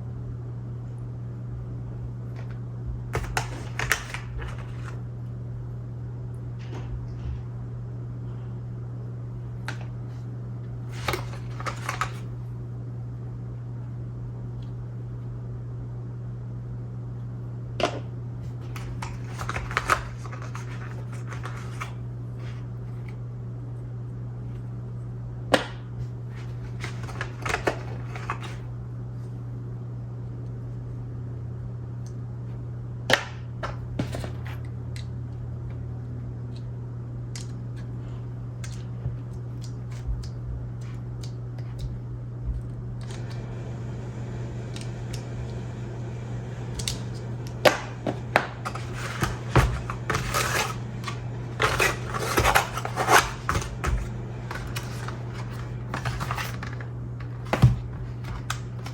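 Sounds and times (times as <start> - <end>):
low hum: 0.0 - 58.9.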